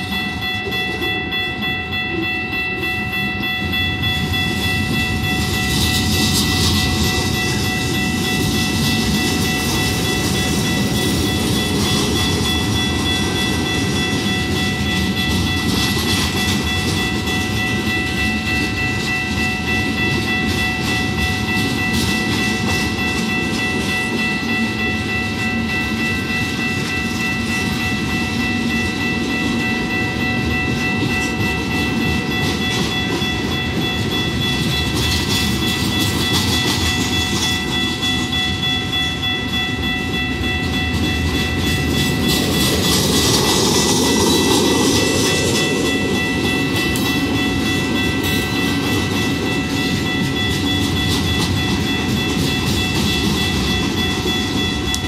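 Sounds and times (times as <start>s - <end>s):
crossing warning bell ringing: 0.0s - 55.0s
train wheels clacking on rails: 0.0s - 55.0s.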